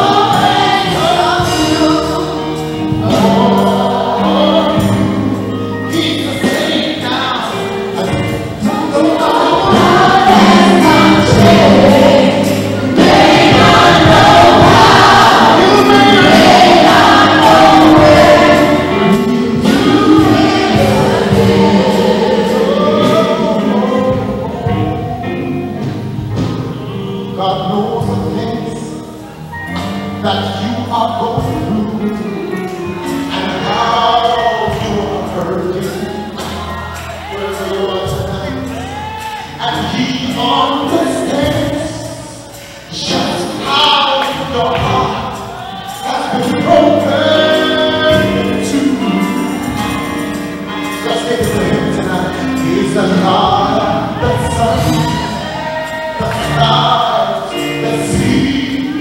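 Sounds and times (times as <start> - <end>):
vocal group singing: 0.0 - 26.6, 27.4 - 59.0
acoustic guitar: 0.0 - 59.0
bass guitar: 0.0 - 59.0
drums: 0.0 - 59.0
keyboard: 0.0 - 59.0.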